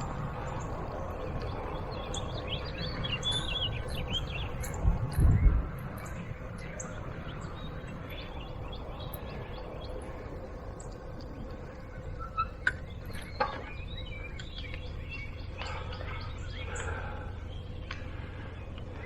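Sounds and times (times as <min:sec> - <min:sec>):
rolling noise: 0:00.0 - 0:19.0
small birds chirping: 0:00.0 - 0:19.0
wind rumble: 0:00.0 - 0:19.0.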